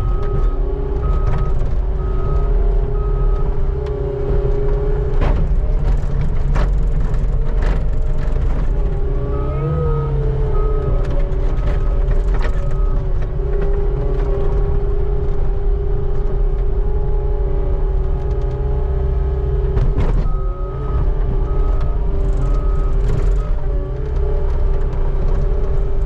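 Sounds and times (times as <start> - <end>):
skid steer engine rumble and whine: 0.0 - 26.0.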